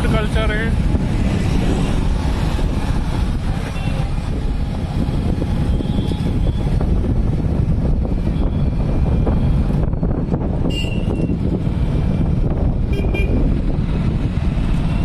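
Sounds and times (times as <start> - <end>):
vehicle wind and road noise: 0.0 - 15.0.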